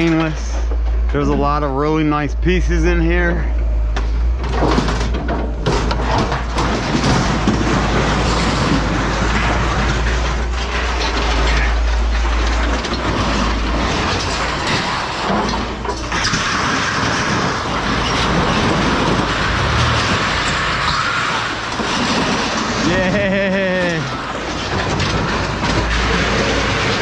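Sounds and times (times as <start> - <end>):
low rumble: 0.0 - 23.6
scrap metal rattling and clanking: 0.0 - 27.0.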